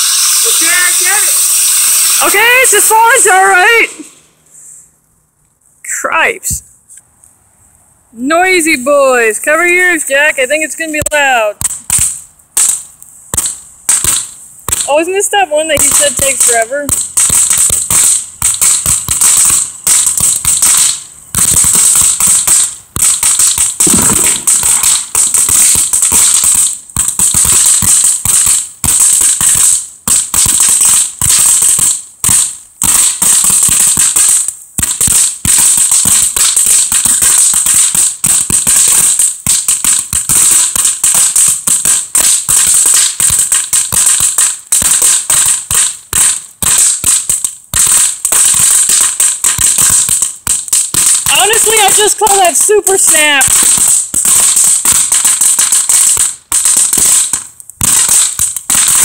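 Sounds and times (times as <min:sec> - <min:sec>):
crackling firework snapping: 0:00.0 - 0:04.5, 0:09.7 - 0:59.0.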